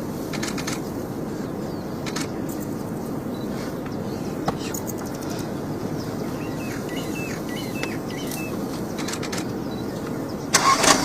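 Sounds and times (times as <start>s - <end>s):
bird chirping: 0.0s - 10.8s
steady low engine rumble: 0.0s - 11.0s.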